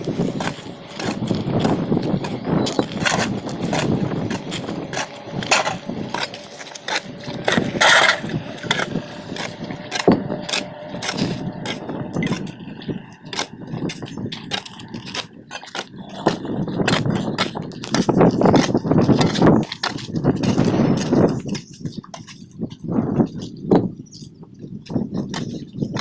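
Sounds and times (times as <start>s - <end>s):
cement and sand being mixed: 0.0s - 26.0s
gritty scraping with clicks: 0.0s - 26.0s.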